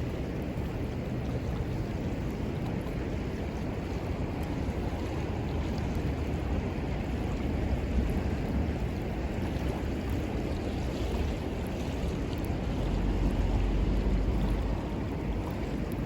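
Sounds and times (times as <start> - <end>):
river water rushing: 0.0 - 16.0
wind rumble on microphone: 0.0 - 16.0.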